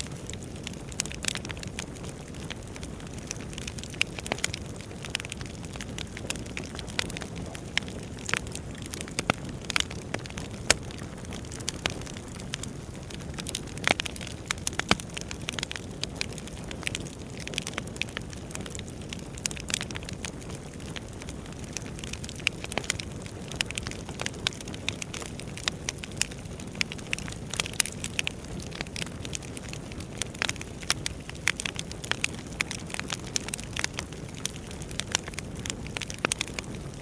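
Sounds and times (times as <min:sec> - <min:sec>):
wood fire crackling and popping: 0:00.0 - 0:37.0.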